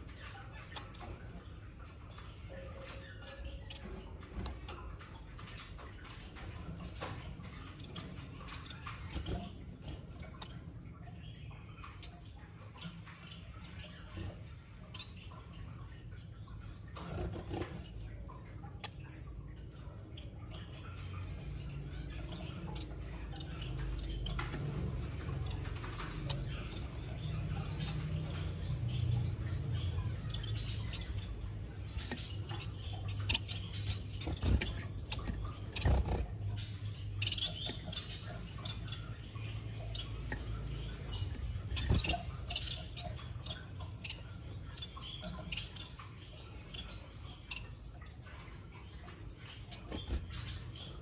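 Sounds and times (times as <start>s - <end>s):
finches chirping: 0.0s - 51.0s.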